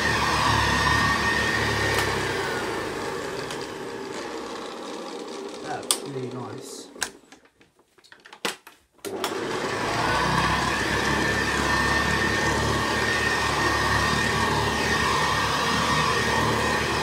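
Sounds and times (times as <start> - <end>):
vacuum cleaner motor whining: 0.0 - 7.4, 9.0 - 17.0.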